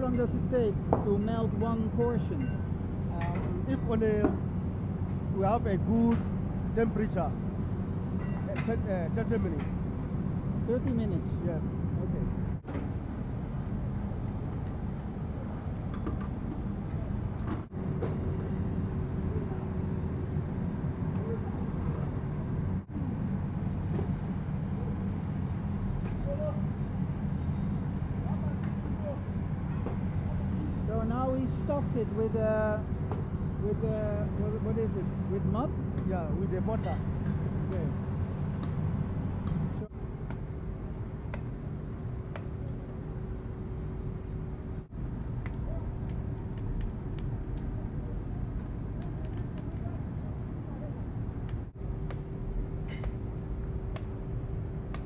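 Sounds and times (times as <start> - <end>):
furnace machine drone: 0.0 - 55.0.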